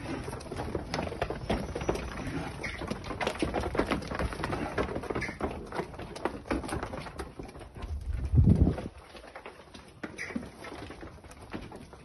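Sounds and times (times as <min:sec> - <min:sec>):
hooves knocking on concrete: 0:00.0 - 0:12.0.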